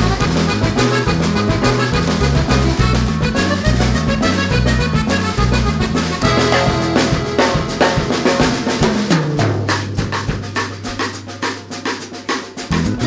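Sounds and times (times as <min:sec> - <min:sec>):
background music with drum beat: 0:00.0 - 0:13.0.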